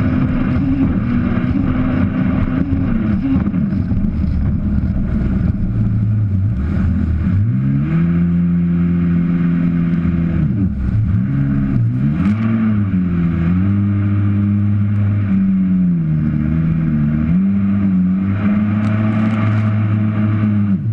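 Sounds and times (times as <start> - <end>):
jet ski engine revving: 0.0 - 20.9.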